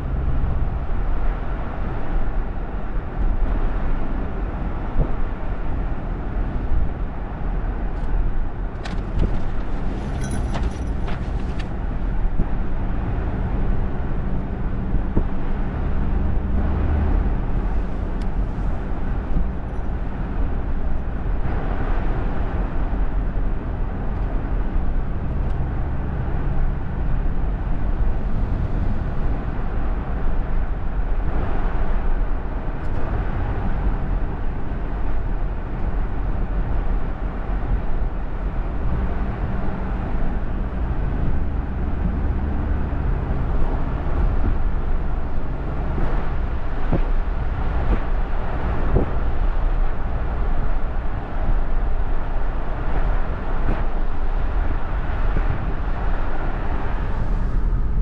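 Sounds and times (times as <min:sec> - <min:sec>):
road noise: 0:00.0 - 0:58.0
vehicle engine rumble: 0:00.0 - 0:58.0.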